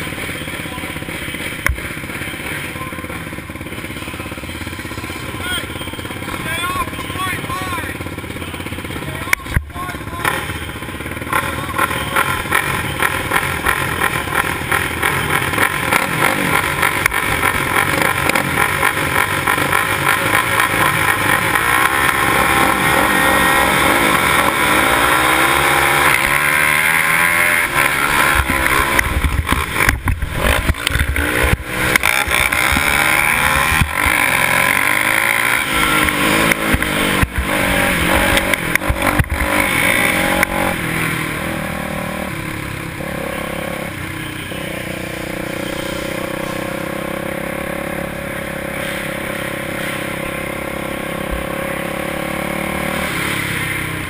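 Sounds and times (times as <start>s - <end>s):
dirt bike engine racing: 0.0s - 54.0s.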